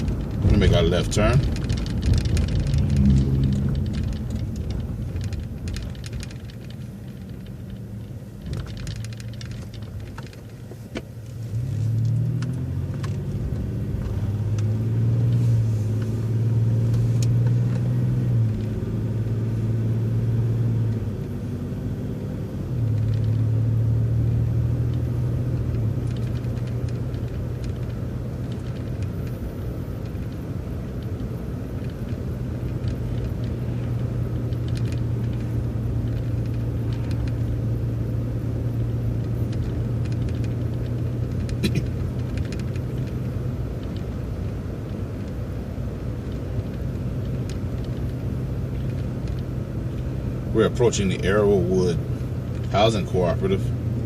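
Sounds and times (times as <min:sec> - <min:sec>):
bus engine idling and accelerating: 0:00.0 - 0:54.0.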